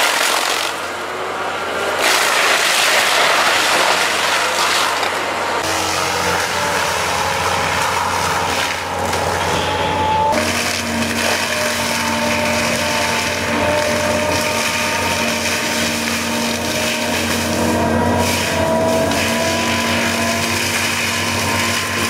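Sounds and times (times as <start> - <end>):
heavy machine grinding wood: 0.0 - 22.0.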